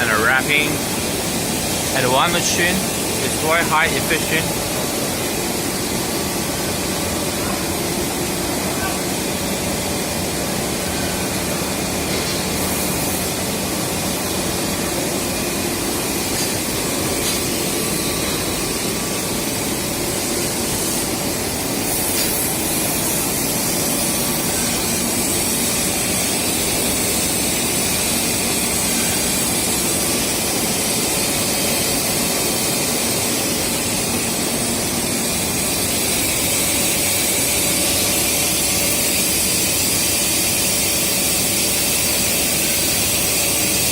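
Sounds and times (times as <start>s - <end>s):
factory machinery running: 0.0s - 43.9s.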